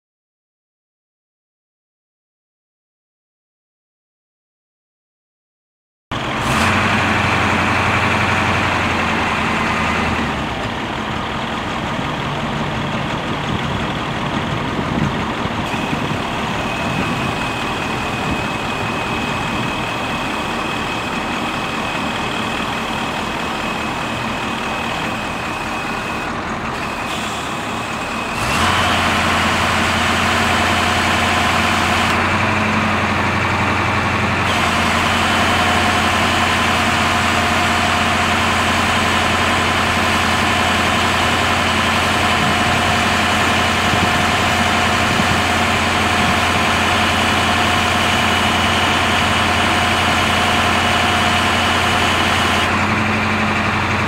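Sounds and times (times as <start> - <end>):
diesel engine running: 6.1 - 54.0.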